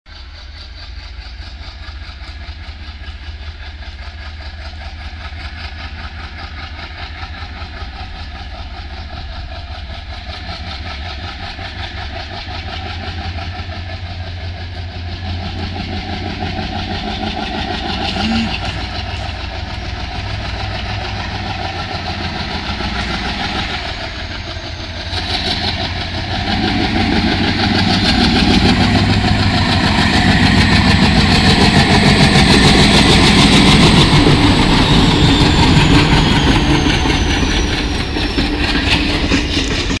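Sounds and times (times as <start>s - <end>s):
diesel locomotive engine throbbing: 0.1s - 40.0s.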